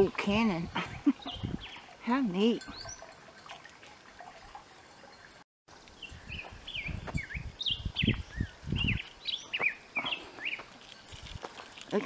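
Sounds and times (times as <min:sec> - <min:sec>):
songbird singing: 0:00.0 - 0:03.3, 0:04.9 - 0:12.0.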